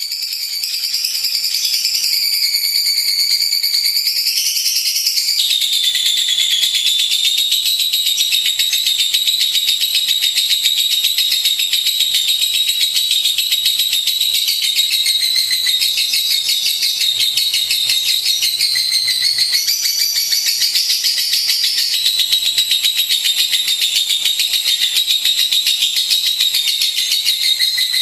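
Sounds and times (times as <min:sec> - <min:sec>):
lovebird high-pitched trill: 0:00.0 - 0:28.0.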